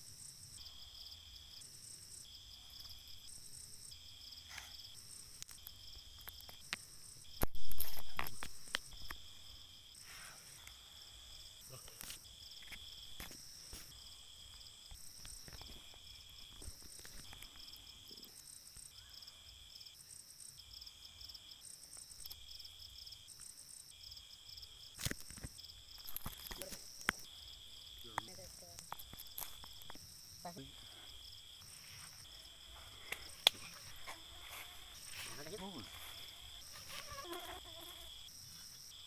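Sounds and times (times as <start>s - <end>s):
crickets trilling: 0.0s - 39.0s
steady high insect buzz: 0.0s - 39.0s.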